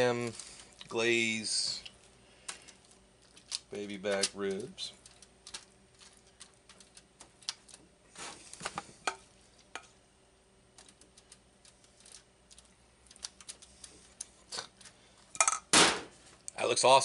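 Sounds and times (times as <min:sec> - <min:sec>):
aluminum foil crinkling: 0:00.0 - 0:09.8, 0:10.7 - 0:15.3.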